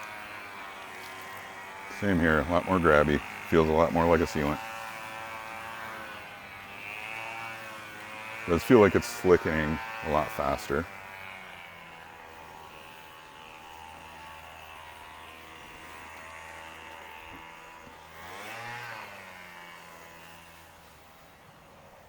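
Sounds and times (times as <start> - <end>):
engine drone: 0.0 - 22.0.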